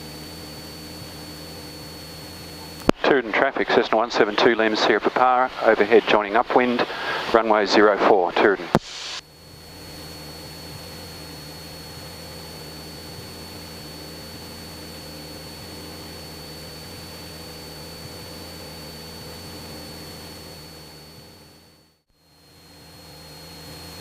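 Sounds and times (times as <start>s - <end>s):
propeller plane engine drone: 0.0s - 24.0s
thin high whine: 0.0s - 24.0s.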